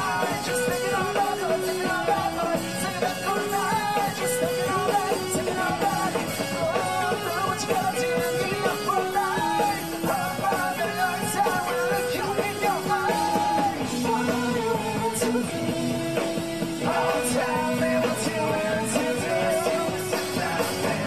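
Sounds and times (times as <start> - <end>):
man singing into a microphone: 0.0 - 16.0, 16.8 - 21.0
drums: 0.0 - 21.0
live rock band playing: 0.0 - 21.0.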